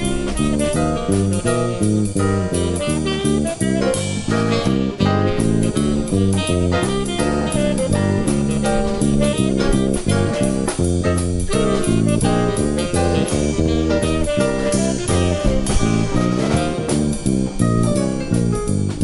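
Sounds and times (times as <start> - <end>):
drum kit: 0.0 - 19.0
guitar: 0.0 - 19.0
jazz combo playing swing: 0.0 - 19.0
saxophone: 0.0 - 19.0.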